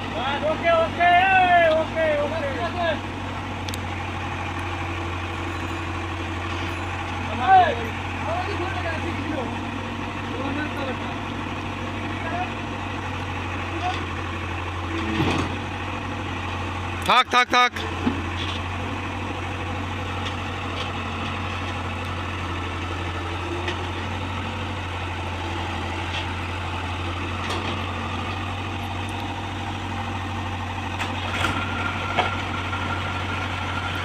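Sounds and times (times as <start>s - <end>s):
heavy machine engine idling: 0.0s - 34.0s.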